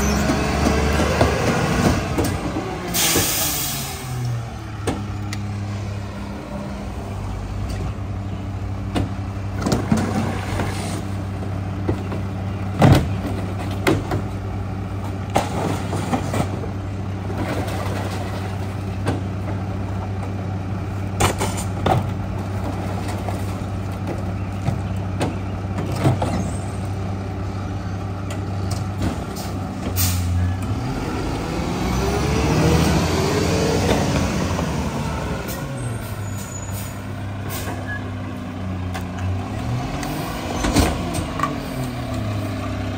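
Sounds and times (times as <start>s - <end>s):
diesel engine humming: 0.0s - 42.9s.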